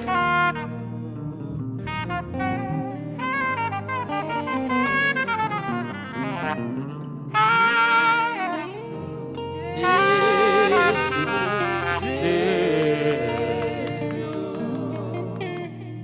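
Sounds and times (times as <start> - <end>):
saxophone melody: 0.0 - 15.8.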